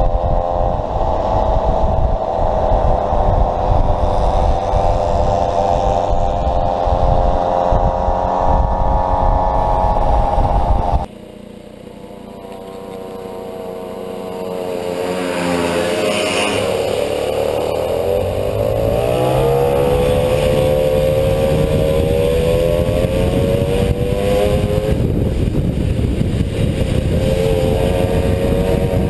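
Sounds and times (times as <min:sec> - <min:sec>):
wind buffeting microphone: 0:00.0 - 0:11.1, 0:13.5 - 0:29.0
moped engine running: 0:00.0 - 0:29.0
mopeds accelerating: 0:00.0 - 0:29.0.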